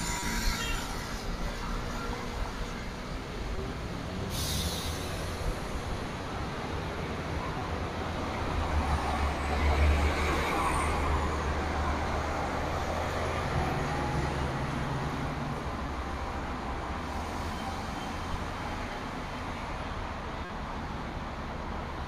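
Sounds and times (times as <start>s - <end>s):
bus driving by: 0.0s - 22.0s
road traffic passing: 0.0s - 22.0s.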